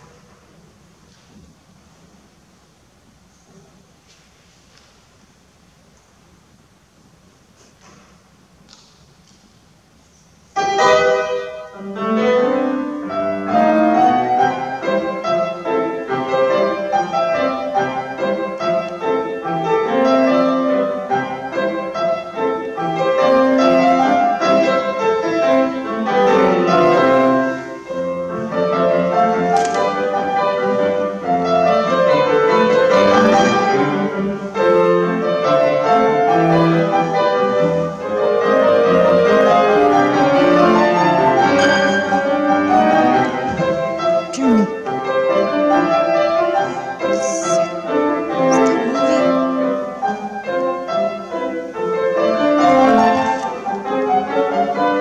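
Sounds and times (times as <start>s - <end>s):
grand piano recital piece: 0.0s - 55.0s.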